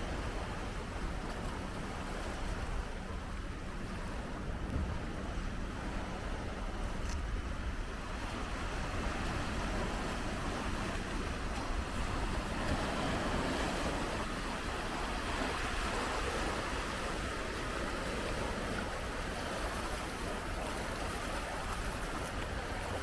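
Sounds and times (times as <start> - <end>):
sea waves breaking on shore: 0.0 - 23.0.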